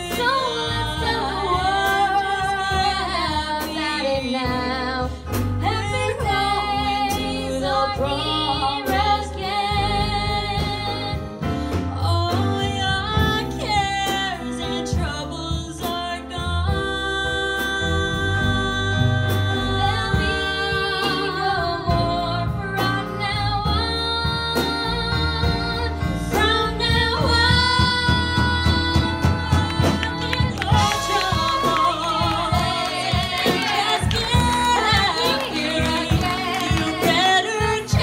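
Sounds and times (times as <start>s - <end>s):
double bass playing low notes: 0.0s - 38.0s
drums: 0.0s - 38.0s
two women singing: 0.0s - 38.0s.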